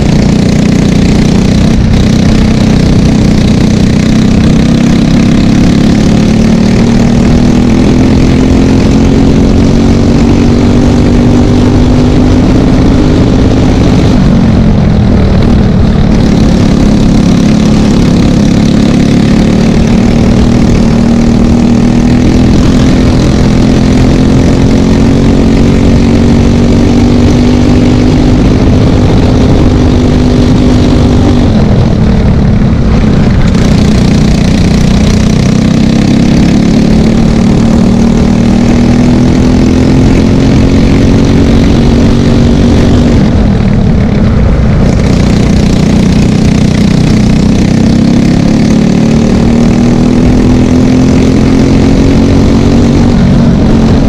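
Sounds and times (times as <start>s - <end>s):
kart engine at full throttle: 0.0s - 54.0s.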